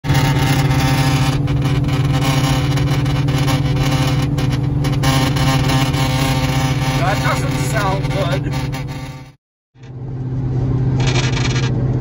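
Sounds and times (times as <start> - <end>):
car engine drone: 0.0 - 12.0
tyre and road noise: 0.0 - 12.0.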